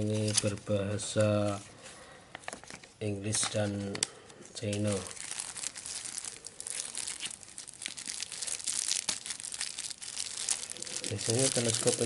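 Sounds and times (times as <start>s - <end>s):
plastic wrapping crinkling: 0.0s - 1.6s, 2.3s - 12.0s.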